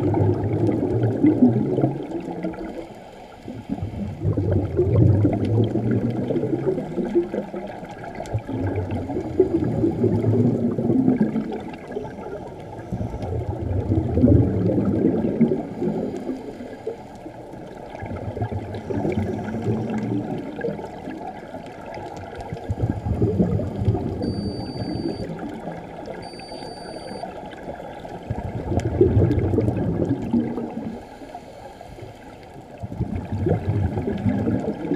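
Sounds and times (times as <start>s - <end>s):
underwater regulator bubbles gurgling: 0.0s - 34.9s.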